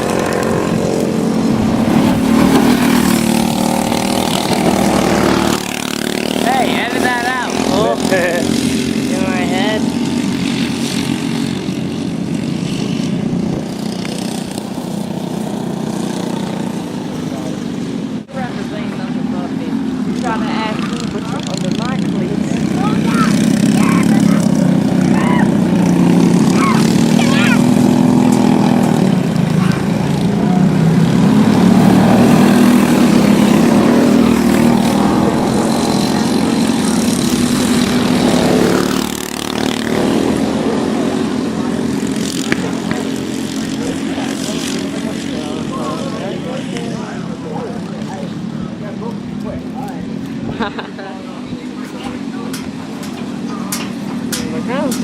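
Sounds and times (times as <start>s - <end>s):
racing kart engines: 0.0s - 55.0s.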